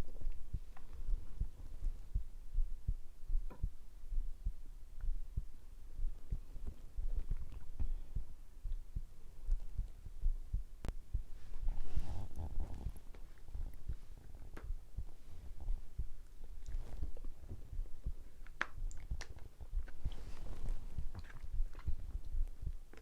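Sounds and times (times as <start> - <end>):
heartbeat-like thumps: 0.0 - 22.9.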